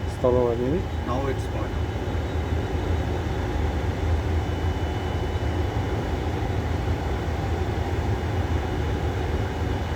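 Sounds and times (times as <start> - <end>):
aircraft engine rumble and hum: 0.0 - 9.9.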